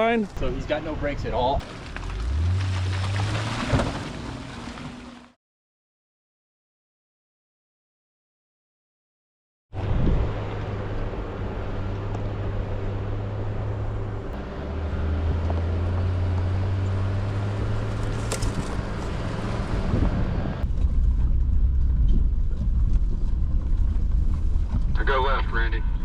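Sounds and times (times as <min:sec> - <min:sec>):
vehicle engine running low: 0:00.3 - 0:05.4, 0:09.8 - 0:26.0.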